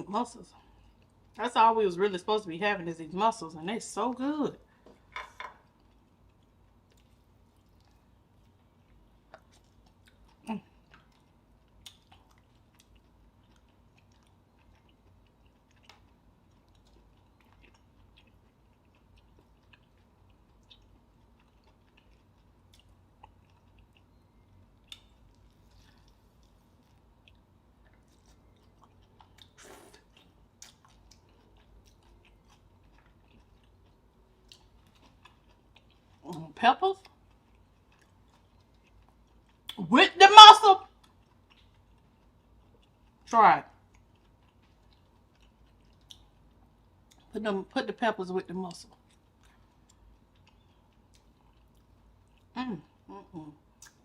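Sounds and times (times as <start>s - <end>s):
chewing and mouth sounds: 4.6s - 39.9s, 40.9s - 47.4s, 48.8s - 54.0s.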